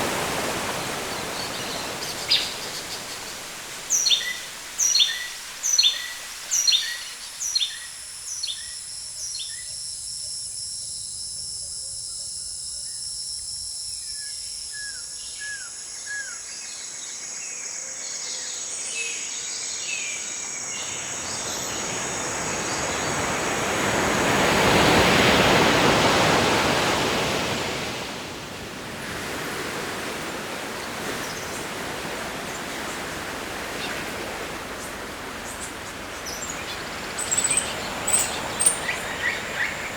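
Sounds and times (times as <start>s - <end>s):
high insect drone: 0.0s - 28.6s, 29.5s - 39.9s.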